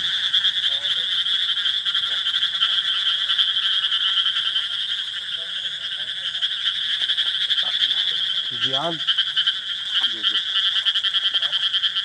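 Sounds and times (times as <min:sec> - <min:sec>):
night chorus of chirping animals: 0:00.0 - 0:12.0.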